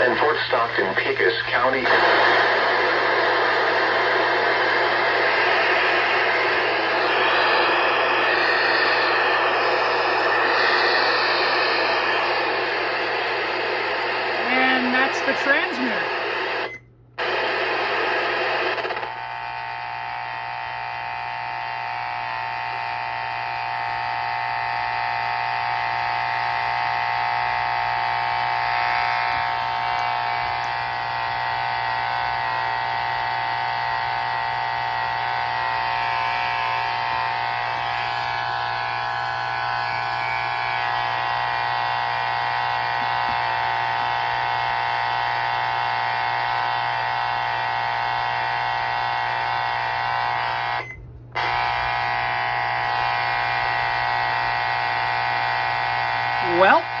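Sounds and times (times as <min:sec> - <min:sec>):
electrical hum and buzz: 0:00.0 - 0:57.0.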